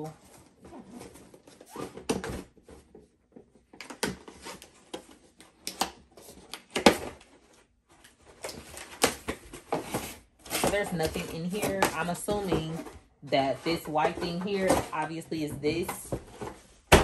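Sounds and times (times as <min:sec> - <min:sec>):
cardboard rustling and scraping: 0:00.0 - 0:17.0.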